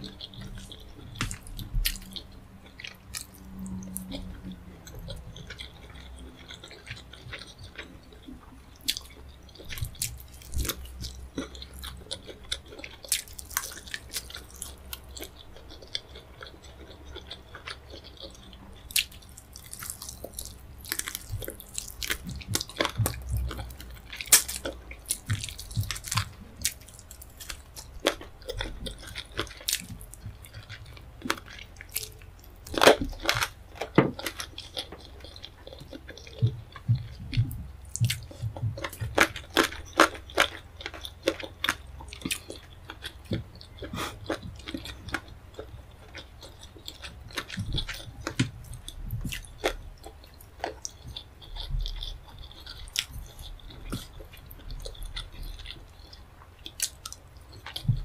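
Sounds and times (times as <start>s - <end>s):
close chewing and biting: 0.0s - 58.0s.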